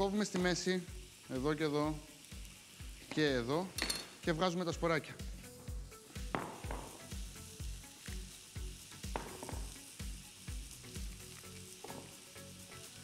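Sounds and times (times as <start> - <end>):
background music with steady beat: 0.0 - 13.0
meat sizzling in oil: 0.0 - 13.0.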